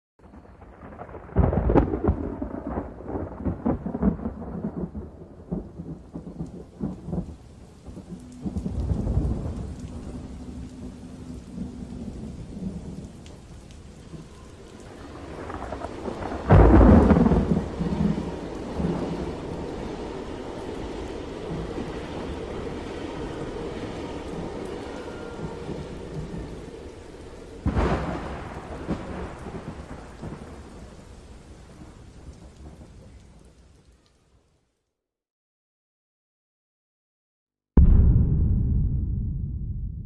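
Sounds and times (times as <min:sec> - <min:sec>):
crackling thunder strikes: 0:00.2 - 0:32.9, 0:37.8 - 0:40.0
thunder rumble and thunderclap: 0:00.2 - 0:33.2, 0:37.8 - 0:40.0
rain: 0:00.2 - 0:35.0.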